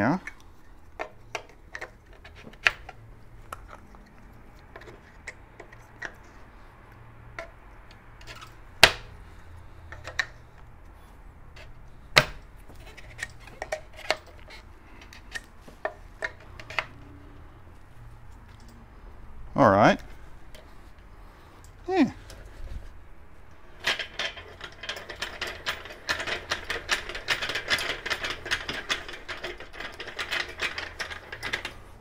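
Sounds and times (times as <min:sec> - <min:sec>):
parts being handled and fitted: 0:00.0 - 0:19.4, 0:20.0 - 0:32.0.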